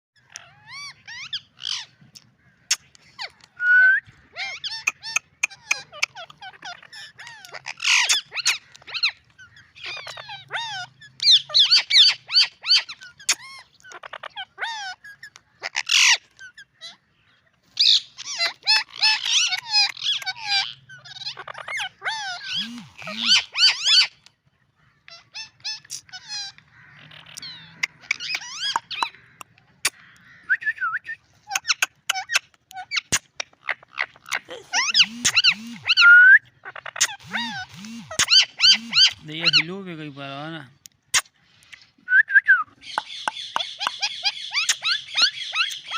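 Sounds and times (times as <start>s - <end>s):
parakeet chattering and squeaking: 0.2s - 2.0s, 4.1s - 24.3s, 25.1s - 30.2s, 31.4s - 41.9s, 42.8s - 45.9s.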